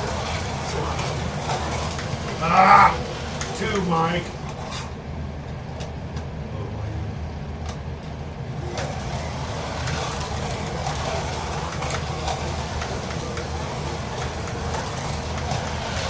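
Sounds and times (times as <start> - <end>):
slot car motors whirring: 0.0 - 16.0.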